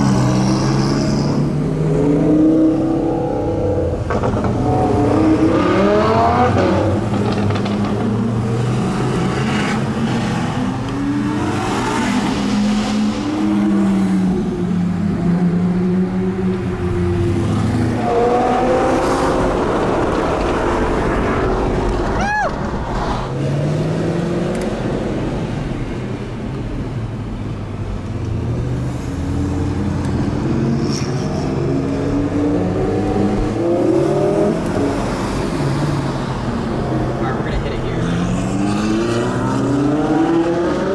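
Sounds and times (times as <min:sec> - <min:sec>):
sports car engines revving: 0:00.0 - 0:40.9.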